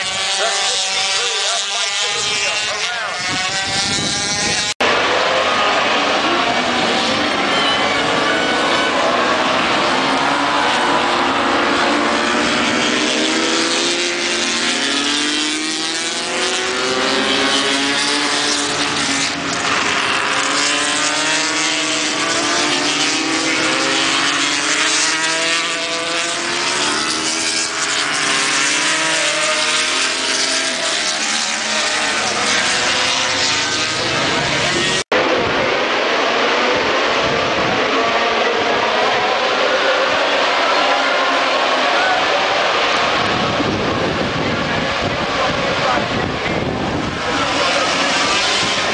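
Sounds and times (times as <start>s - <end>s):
racing motorcycle engines: 0.0s - 48.9s.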